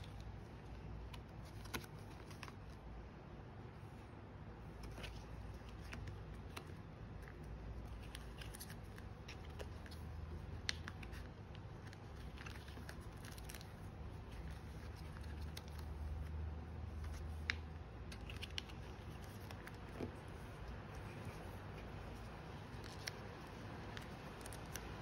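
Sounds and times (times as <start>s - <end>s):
plastic sleeves crinkling: 0.0s - 2.8s, 4.6s - 25.0s
low steady hum: 0.0s - 25.0s.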